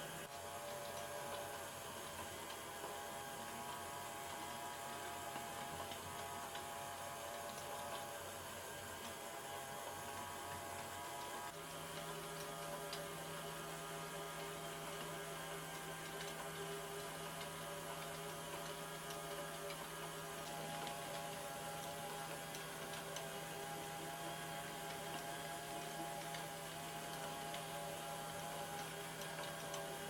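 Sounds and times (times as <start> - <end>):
small motor humming: 0.0 - 30.0
faint plastic ticks: 0.6 - 8.2, 10.0 - 13.2, 14.3 - 30.0.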